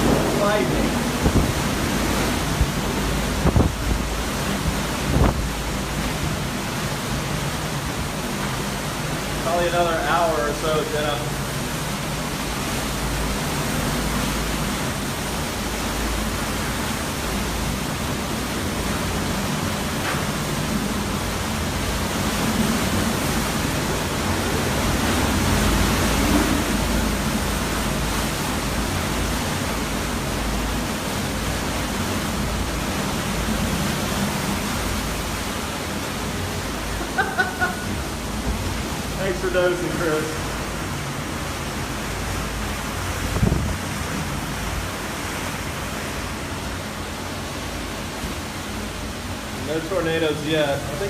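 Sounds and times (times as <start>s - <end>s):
hurricane winds rushing: 0.0s - 51.0s.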